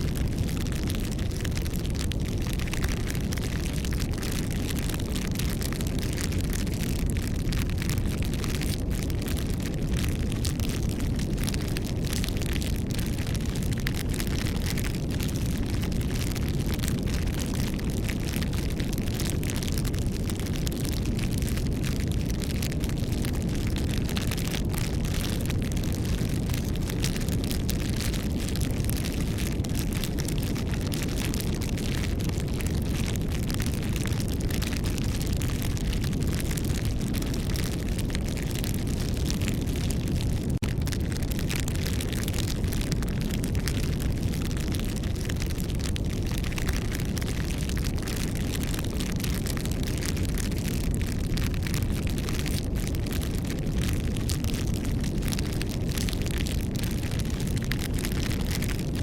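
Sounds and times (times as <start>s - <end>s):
campfire wood crackling: 0.0s - 59.0s
low rushing of flames: 0.0s - 59.0s.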